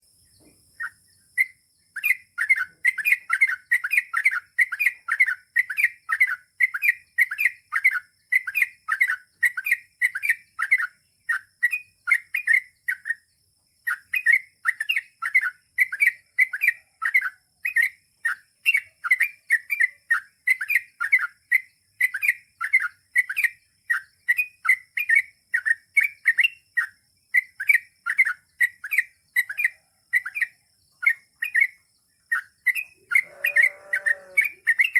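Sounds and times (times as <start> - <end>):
bird singing chattering notes: 0.6 - 34.9.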